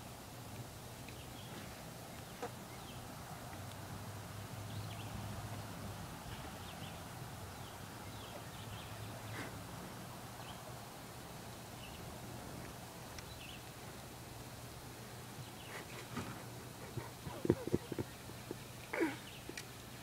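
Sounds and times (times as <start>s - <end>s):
small birds chirping faintly: 0.0s - 20.0s
steady low hum: 0.0s - 20.0s.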